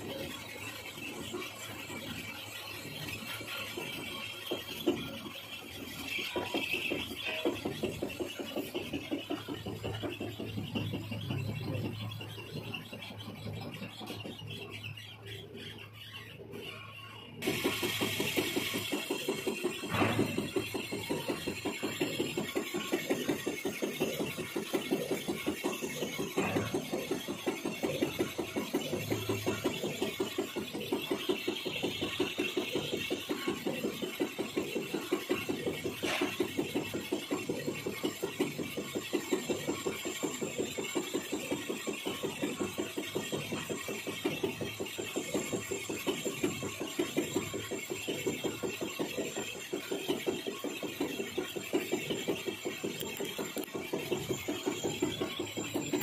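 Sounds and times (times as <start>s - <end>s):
lathe droning and pulsing: 0.0s - 56.0s.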